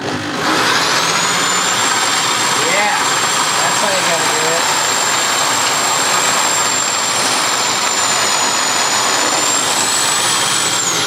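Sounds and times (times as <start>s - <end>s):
drill turning grain mill: 0.0s - 11.0s.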